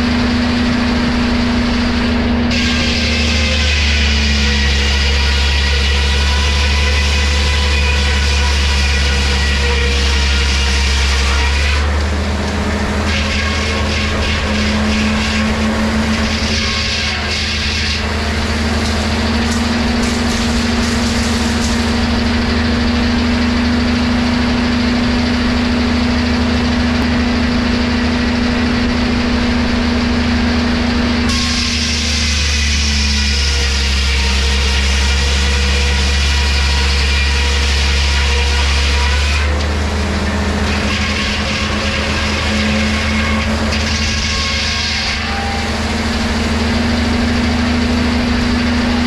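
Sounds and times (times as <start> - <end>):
saw whine cutting board: 0.0 - 49.0
wood-cutting machinery running: 0.0 - 49.0.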